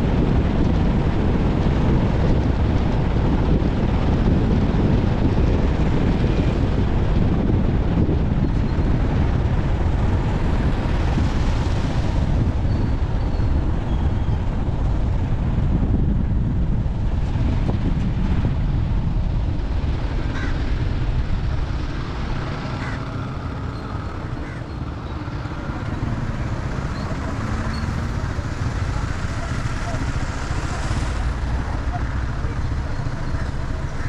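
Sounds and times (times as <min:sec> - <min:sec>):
vehicle road rumble: 0:00.0 - 0:34.0
wind buffeting microphone: 0:00.0 - 0:34.0.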